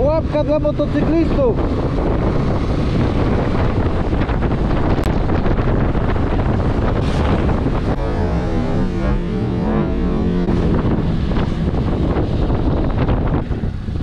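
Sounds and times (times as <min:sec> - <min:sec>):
wind rushing on microphone: 0:00.0 - 0:14.0.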